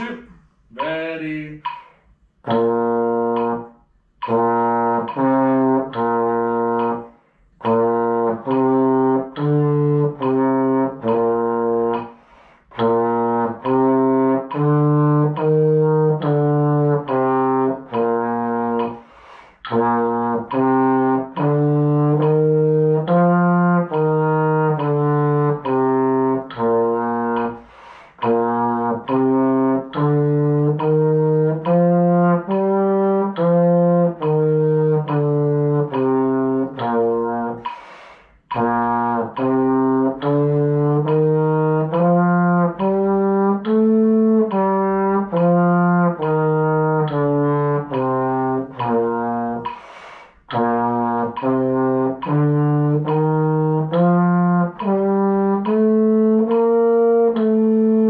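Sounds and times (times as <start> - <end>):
trombone playing scale: 0.0 - 58.0.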